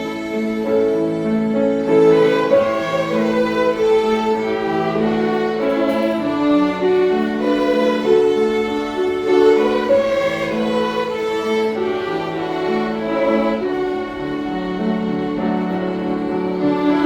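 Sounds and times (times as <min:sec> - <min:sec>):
bowed strings playing a hymn: 0:00.0 - 0:17.0.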